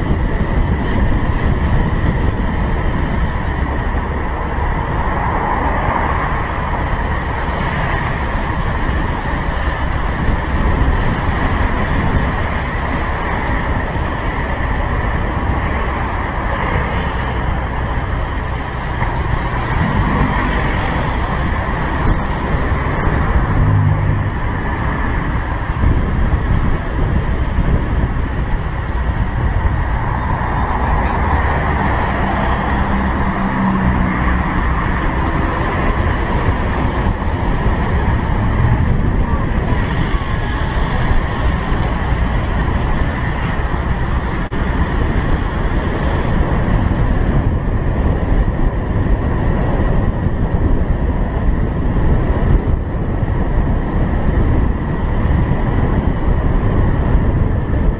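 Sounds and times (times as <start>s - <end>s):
passing cars and motorbikes: 0.0s - 57.9s
wind rushing over microphone: 0.0s - 57.9s.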